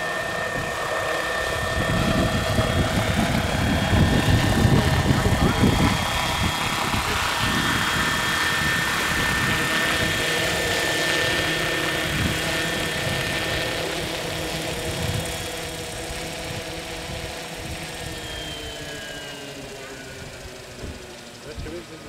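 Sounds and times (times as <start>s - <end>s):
model helicopter motor and rotors: 0.0s - 22.0s.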